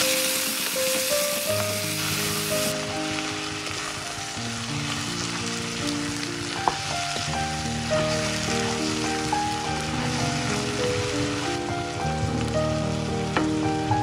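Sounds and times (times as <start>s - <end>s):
meat sizzling in hot oil: 0.0s - 14.0s
soft background music: 0.0s - 14.0s.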